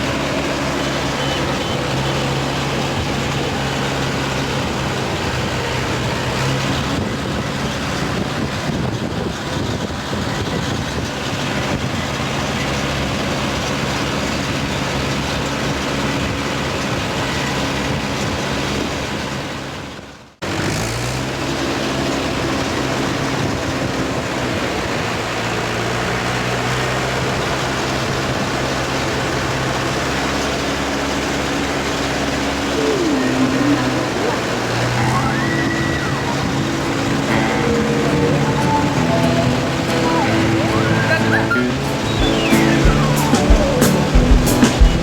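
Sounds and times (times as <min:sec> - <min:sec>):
tractor diesel engine running: 0:00.0 - 0:19.5, 0:21.3 - 0:45.0.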